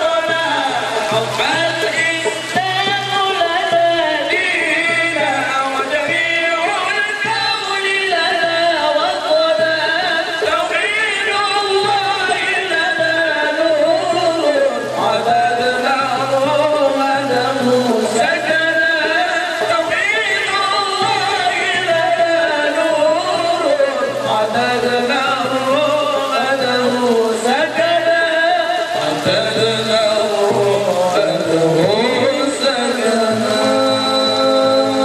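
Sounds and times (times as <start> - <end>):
person chanting: 0.0 - 35.0.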